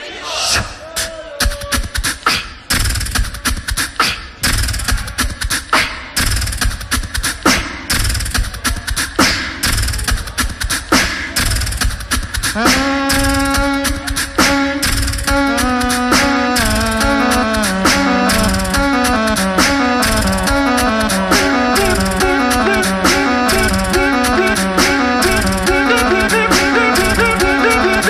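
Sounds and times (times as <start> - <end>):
looped beatboxing beat: 0.5 - 28.0.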